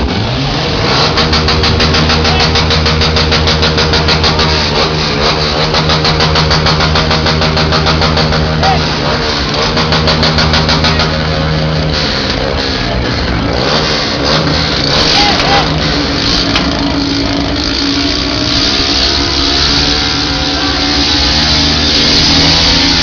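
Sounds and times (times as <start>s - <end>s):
vehicle engine idling: 0.0s - 23.0s
fast even pulsing: 0.8s - 23.0s.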